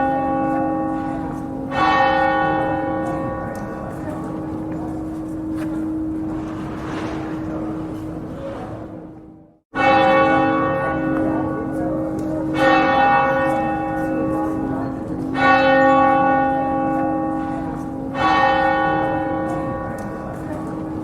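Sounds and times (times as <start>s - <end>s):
church bell tolling: 0.0s - 21.0s.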